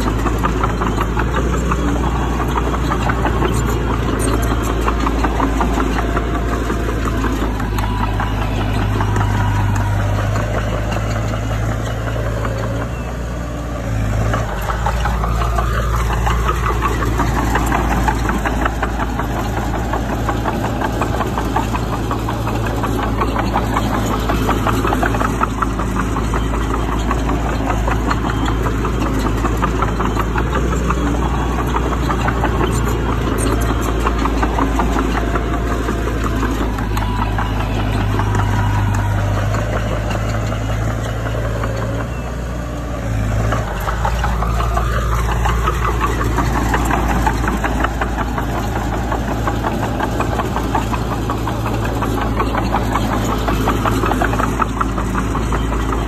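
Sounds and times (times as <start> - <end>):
heavy diesel engine clattering: 0.0 - 56.0.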